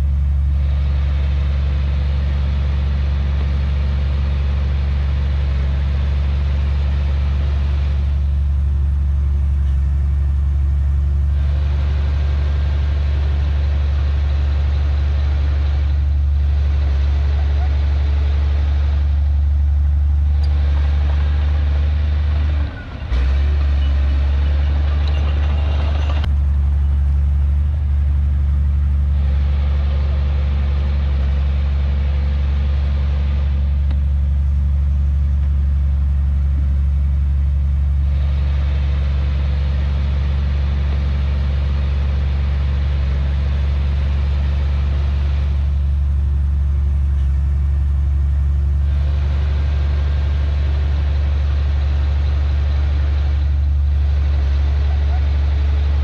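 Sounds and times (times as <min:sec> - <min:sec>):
heavy diesel engine droning: 0:00.0 - 0:56.0
higher noisy engine layer: 0:00.0 - 0:56.0.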